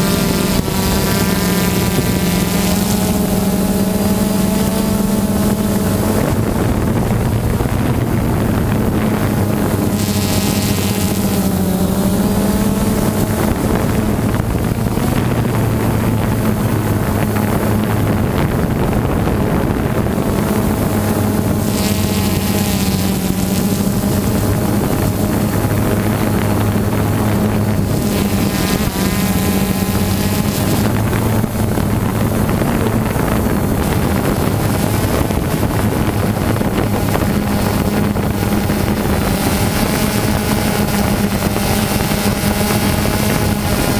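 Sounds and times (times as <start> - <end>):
motor droning: 0.0 - 43.9
wind on microphone: 0.0 - 43.9.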